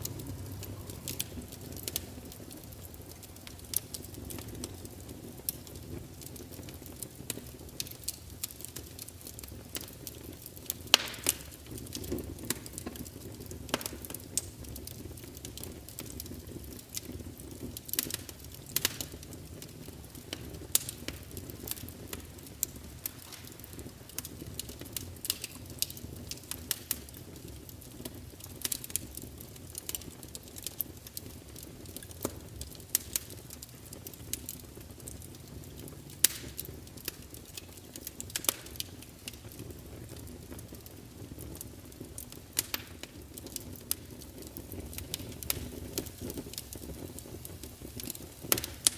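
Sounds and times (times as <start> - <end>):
fire crackling and popping: 0.0 - 48.9
wood fire rumbling: 0.0 - 48.9.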